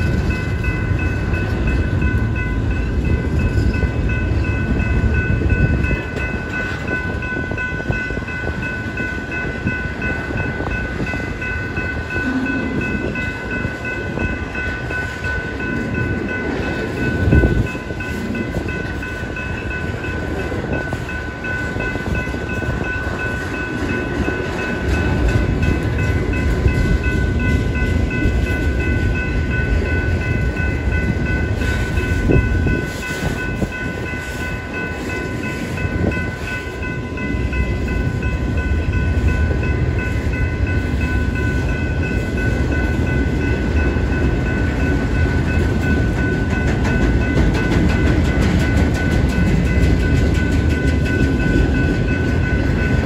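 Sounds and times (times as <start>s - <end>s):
freight cars rumbling over rails: 0.0s - 53.0s
railroad crossing bell ringing: 0.0s - 53.0s
train wheels clanking: 0.0s - 53.0s.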